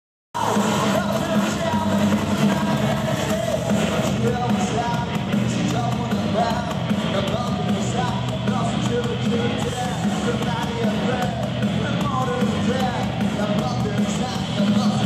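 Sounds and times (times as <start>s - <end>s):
live rock band playing: 0.4s - 15.0s
singer's amplified vocals: 0.4s - 15.0s.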